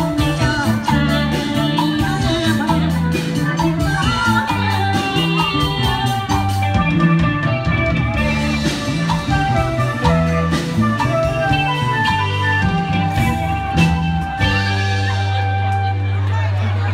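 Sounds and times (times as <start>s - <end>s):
live band playing: 0.0s - 16.9s.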